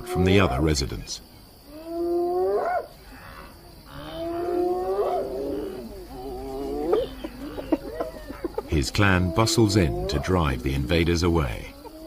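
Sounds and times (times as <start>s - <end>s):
hyena whooping: 1.7s - 12.0s.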